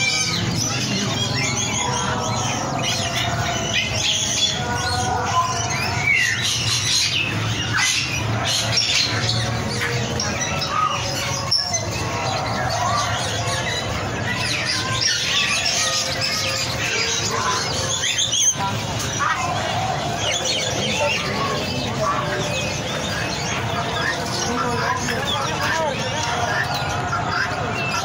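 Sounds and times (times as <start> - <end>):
caged birds chirping and squawking: 0.0 - 28.0.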